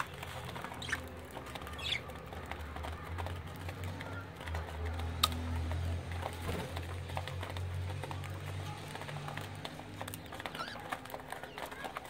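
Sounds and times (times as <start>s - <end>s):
budgies chirping: 0.0s - 4.6s, 6.2s - 12.0s
small scratching clicks: 0.0s - 12.0s.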